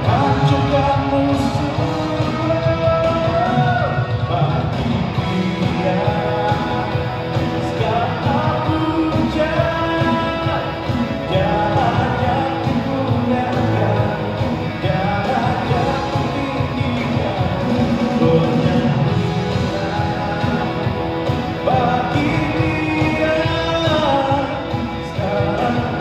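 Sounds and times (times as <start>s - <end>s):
live band playing rock worship song: 0.0s - 26.0s
person singing: 0.0s - 26.0s.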